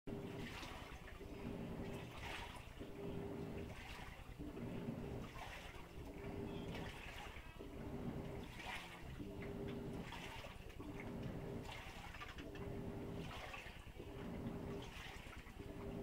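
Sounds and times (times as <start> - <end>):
washing machine motor humming: 0.1 - 16.0
water sloshing in washing machine: 0.1 - 16.0.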